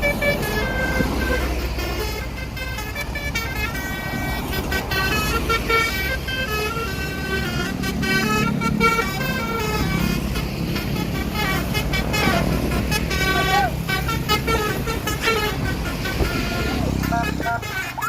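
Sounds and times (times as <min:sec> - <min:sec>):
engines rumbling: 0:00.0 - 0:18.0
multi-tone air horn tune: 0:00.0 - 0:18.0.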